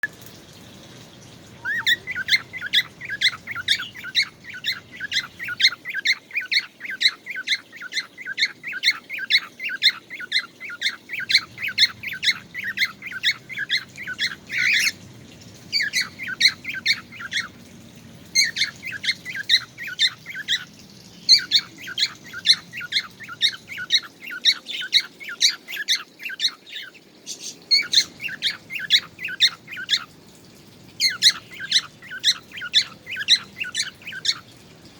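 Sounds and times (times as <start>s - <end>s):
bird chirping rapidly: 1.6s - 15.0s, 15.6s - 17.6s, 18.2s - 30.2s, 30.9s - 34.6s.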